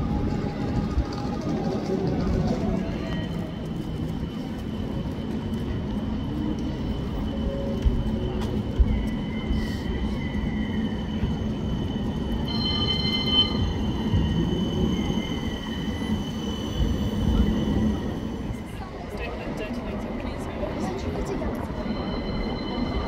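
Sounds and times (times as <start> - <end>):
tram rolling past: 0.0 - 23.0.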